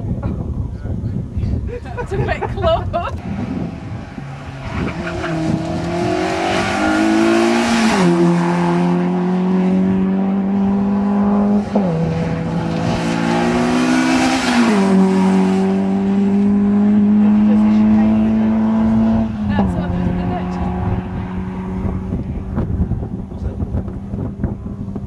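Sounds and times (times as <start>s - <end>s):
rally car engine revving through gears: 3.2s - 25.0s.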